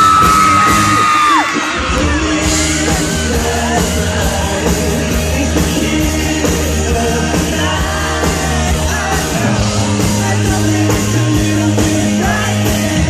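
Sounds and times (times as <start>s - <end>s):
audience shouting along: 0.0s - 5.5s, 6.8s - 13.0s
live pop-rock band: 0.0s - 13.0s.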